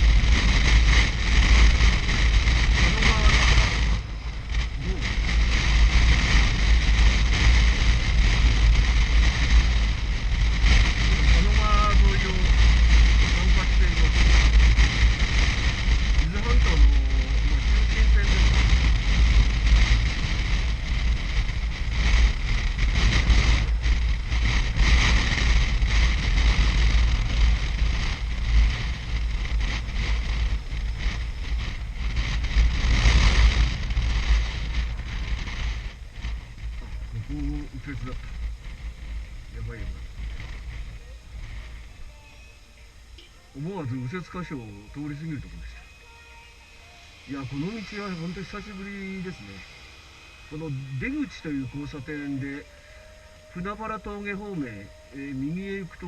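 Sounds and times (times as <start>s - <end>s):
motorcycle engine rumble: 0.0s - 56.0s
road noise: 0.0s - 56.0s
wind buffeting microphone: 0.0s - 56.0s.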